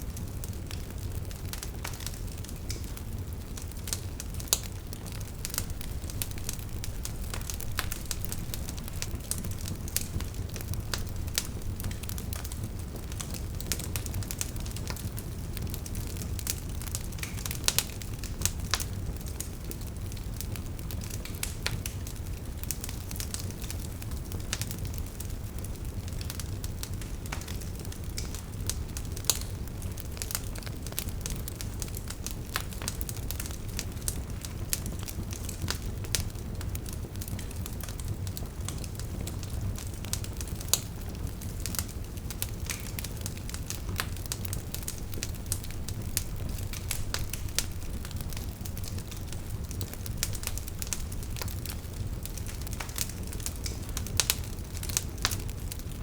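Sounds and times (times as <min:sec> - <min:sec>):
fire rumbling: 0:00.0 - 0:56.0
logs crackling and popping: 0:00.1 - 0:56.0.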